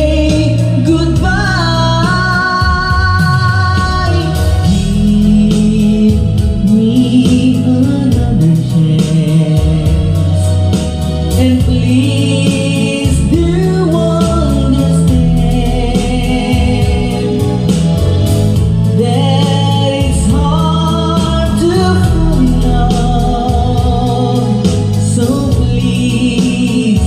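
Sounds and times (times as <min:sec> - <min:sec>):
heavy bass: 0:00.0 - 0:27.0
song with sung melody: 0:00.0 - 0:27.0
steady drum beat: 0:00.0 - 0:27.0.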